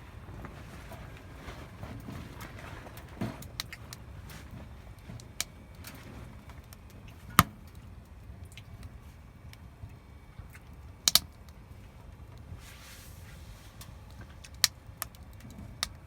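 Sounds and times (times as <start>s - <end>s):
firewood crackling and popping: 0.0s - 9.6s, 10.5s - 11.6s, 12.2s - 16.0s
low steady rumble: 0.0s - 16.0s.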